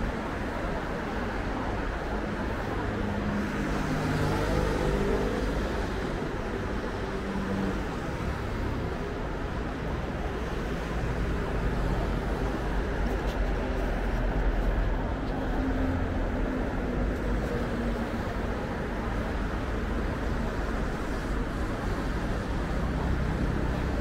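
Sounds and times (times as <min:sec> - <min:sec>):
traffic hum: 0:00.0 - 0:24.0.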